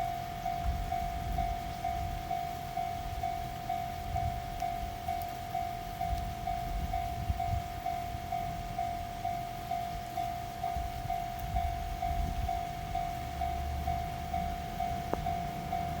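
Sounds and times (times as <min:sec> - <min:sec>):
level crossing warning bell: 0:00.0 - 0:16.0
passing train rumble: 0:00.0 - 0:16.0.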